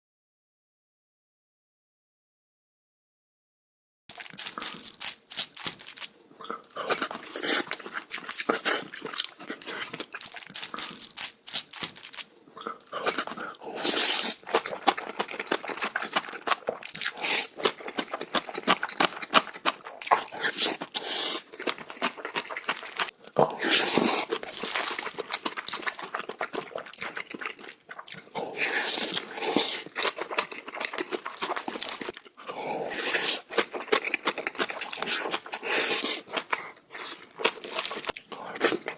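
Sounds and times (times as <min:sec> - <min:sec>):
person chewing with wet smacks: 0:04.1 - 0:38.9.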